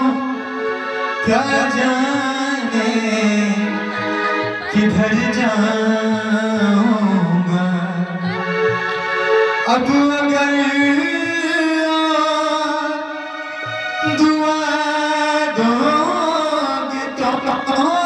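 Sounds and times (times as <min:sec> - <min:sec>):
man singing into microphone: 0:00.0 - 0:00.5, 0:01.2 - 0:08.6, 0:09.6 - 0:13.4, 0:14.0 - 0:18.0.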